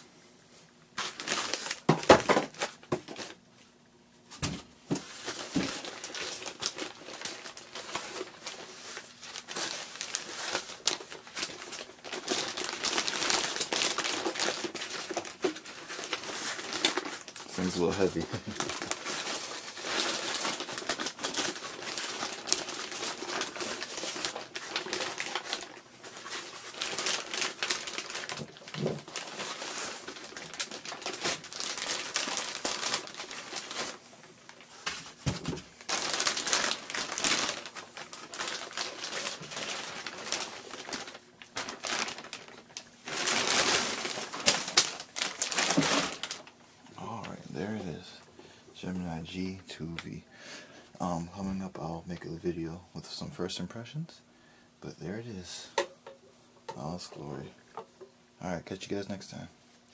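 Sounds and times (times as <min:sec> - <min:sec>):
packaging crinkling and rustling: 0:01.0 - 0:03.4, 0:04.3 - 0:50.2.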